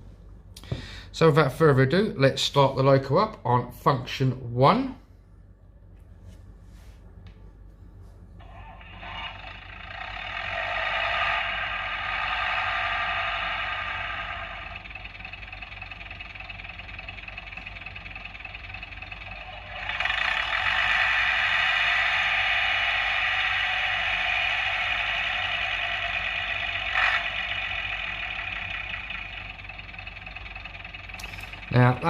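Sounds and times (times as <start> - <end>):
diesel train engine idling: 0.0 - 5.9, 7.6 - 32.0.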